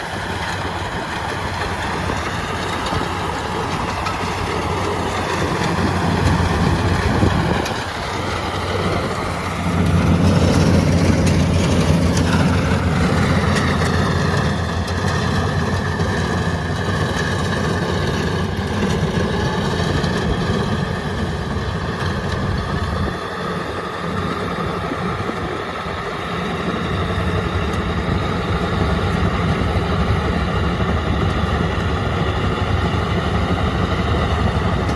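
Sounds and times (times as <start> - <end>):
combine harvester engine running: 0.0 - 34.9.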